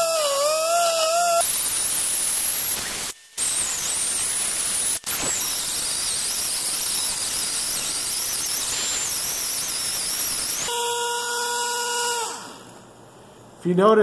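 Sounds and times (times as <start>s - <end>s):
air grinder cutting metal: 0.0s - 12.8s
grinder spinning free: 0.0s - 12.8s.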